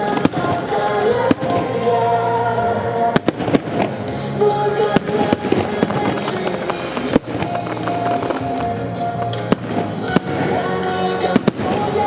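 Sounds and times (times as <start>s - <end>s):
fireworks bangs: 0.0s - 12.0s
loud music: 0.0s - 12.0s.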